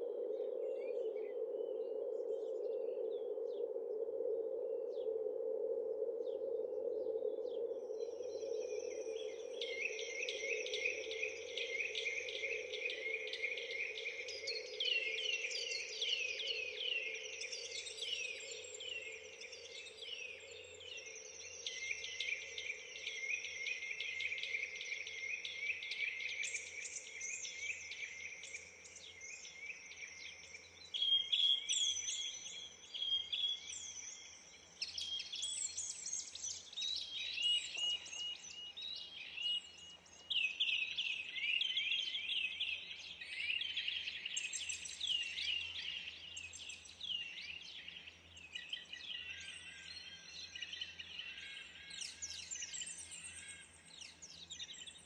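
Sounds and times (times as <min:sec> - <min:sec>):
songbirds chirping and singing: 0:07.5 - 0:55.0.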